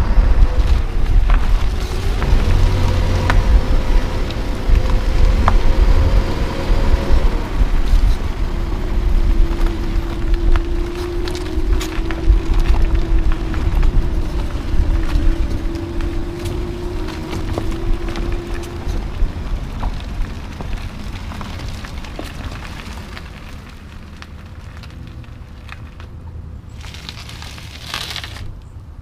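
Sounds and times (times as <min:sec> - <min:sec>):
tyres rolling over gritty asphalt: 0:00.0 - 0:28.6
grit and leaves crackling: 0:00.0 - 0:29.0.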